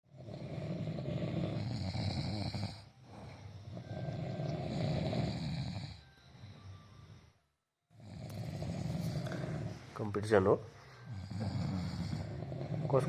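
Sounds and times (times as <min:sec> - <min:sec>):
men snoring: 0:00.1 - 0:13.0.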